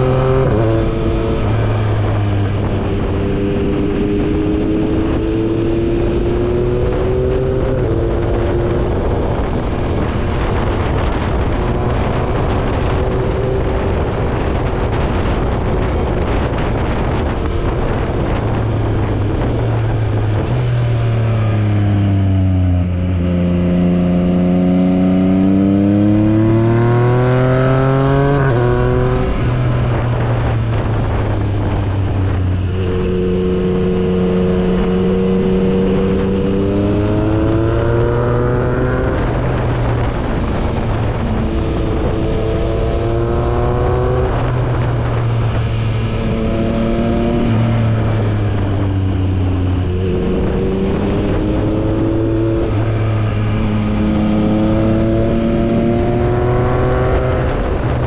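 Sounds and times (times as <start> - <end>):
motorcycle engine at speed: 0.0 - 58.0
wind rush over microphone: 0.0 - 58.0.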